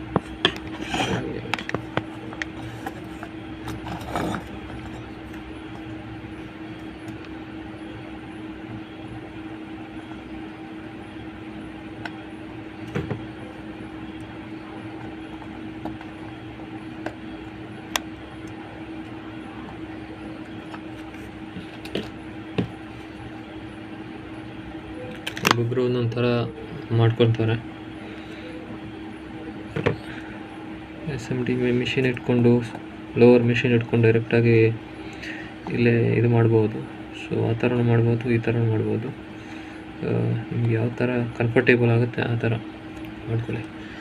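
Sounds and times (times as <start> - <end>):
electric motor hum: 0.0 - 44.0.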